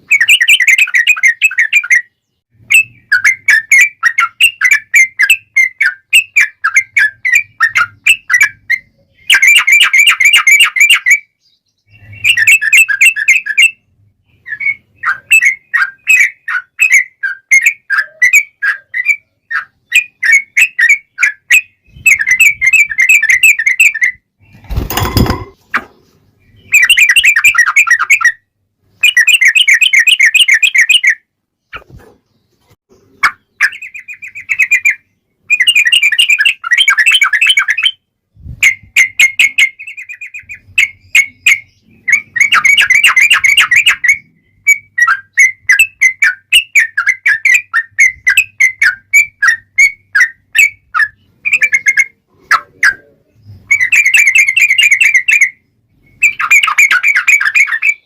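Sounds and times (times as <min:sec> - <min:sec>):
sharp bird calls: 0:00.0 - 0:58.0.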